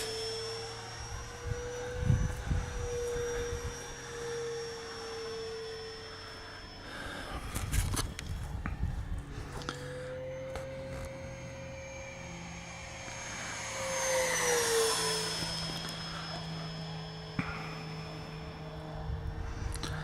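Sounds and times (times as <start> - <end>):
model jet fan whine flying past: 0.0 - 20.0.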